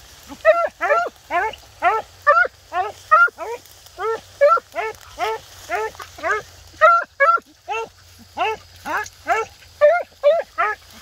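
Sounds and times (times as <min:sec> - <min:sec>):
hounds barking: 0:00.3 - 0:11.0.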